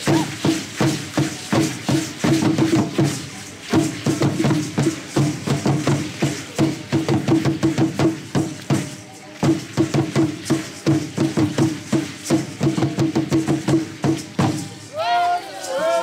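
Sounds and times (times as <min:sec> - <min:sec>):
drum struck in quick rhythm: 0:00.0 - 0:14.9.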